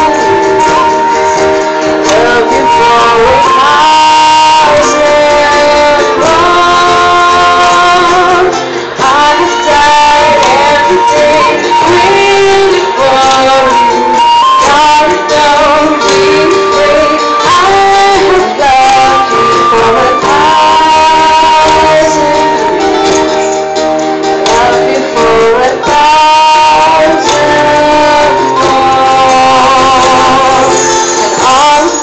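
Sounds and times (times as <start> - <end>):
woman singing: 0.0 - 23.7, 24.3 - 32.0
flute: 0.0 - 32.0
plucked strings: 0.0 - 32.0.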